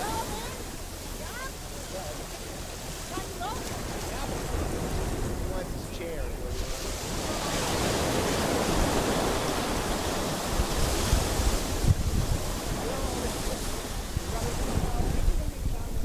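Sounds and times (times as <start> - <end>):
surf washing on beach: 0.0 - 16.0
wind buffeting microphone: 0.0 - 16.0.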